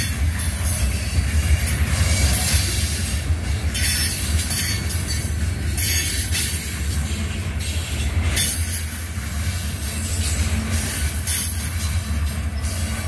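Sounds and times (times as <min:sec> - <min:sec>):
freight train rumbling past: 0:00.0 - 0:13.0
high hiss of train: 0:00.0 - 0:13.0.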